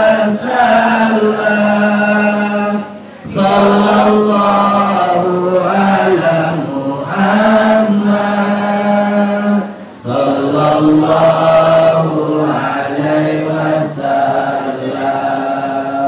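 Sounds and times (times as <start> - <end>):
man chanting into a microphone: 0.0 - 16.0.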